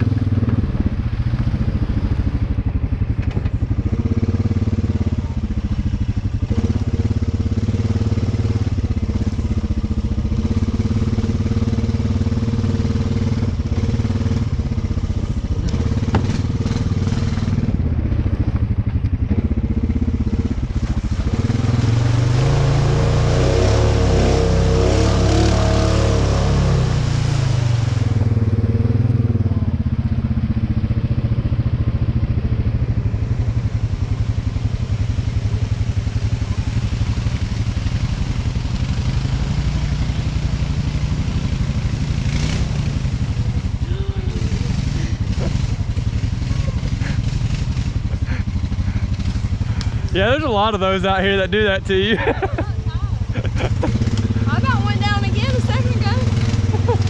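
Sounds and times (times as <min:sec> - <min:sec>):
atv engine running through mud: 0:00.0 - 0:57.0.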